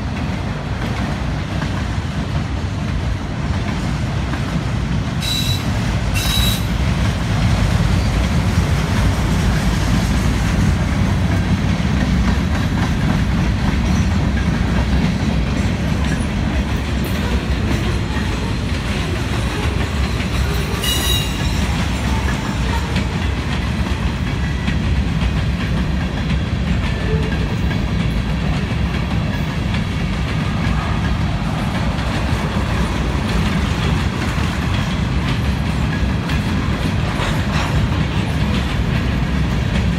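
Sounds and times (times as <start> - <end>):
freight train wheels on track: 0.0 - 39.9.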